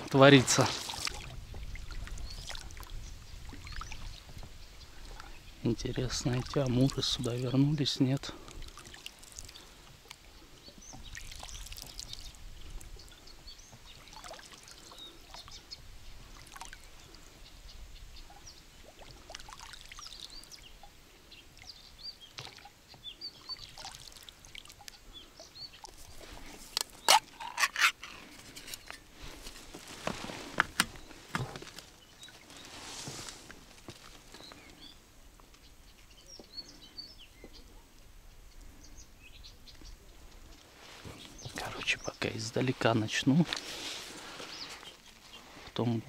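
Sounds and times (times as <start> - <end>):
oars dipping and dripping water: 0.0 - 46.0
small birds chirping: 0.1 - 46.0.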